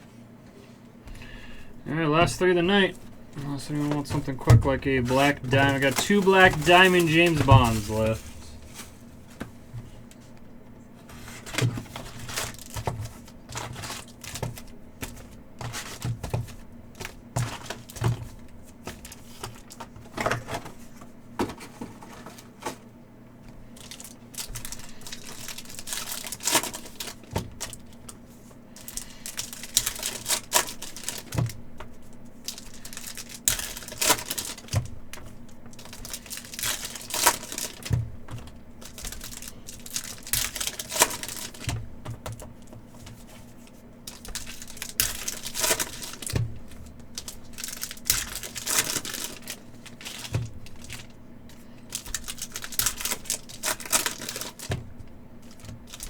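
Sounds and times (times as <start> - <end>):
foil wrappers tearing and crinkling: 1.2 - 9.4, 11.1 - 20.7, 23.7 - 28.2, 28.8 - 56.0.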